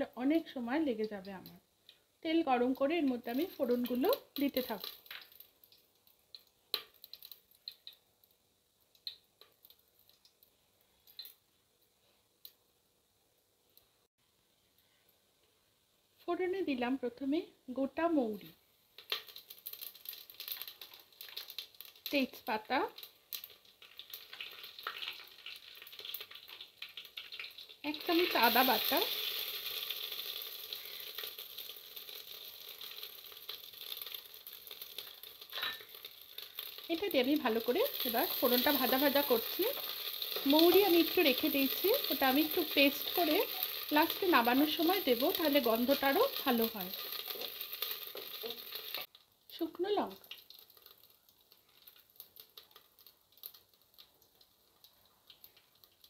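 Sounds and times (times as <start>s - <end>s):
oil crackling in a pot: 0.0s - 56.0s.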